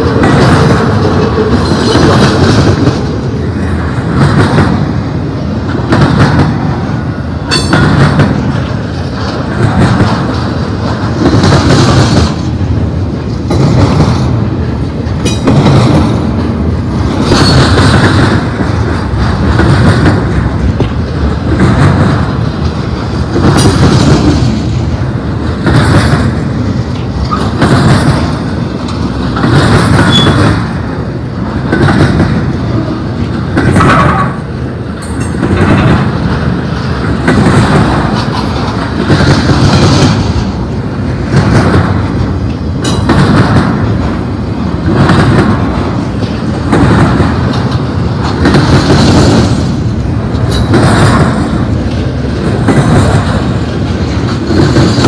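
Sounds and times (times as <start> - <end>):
freight car wheels clattering on rail: 0.0 - 55.0.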